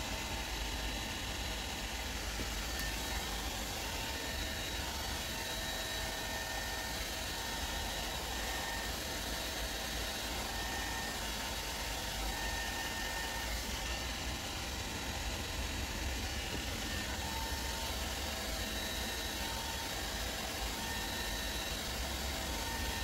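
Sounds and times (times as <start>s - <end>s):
faint thin whining tones: 0.0s - 23.0s
steady whirring: 0.0s - 23.0s.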